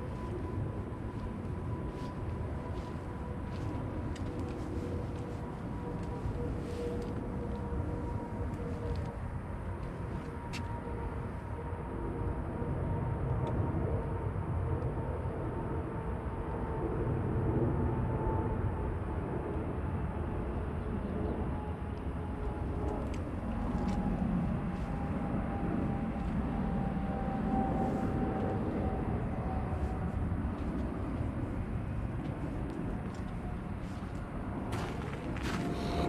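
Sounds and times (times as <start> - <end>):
jet aircraft passing overhead: 0.0 - 36.0.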